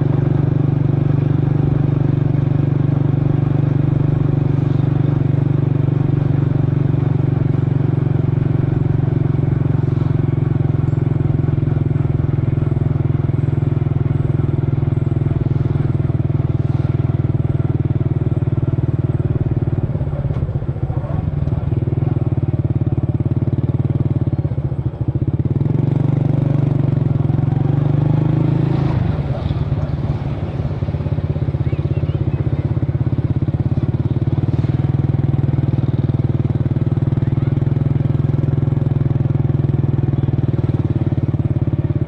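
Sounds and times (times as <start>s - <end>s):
motor scooter engine idling: 0.0s - 42.0s.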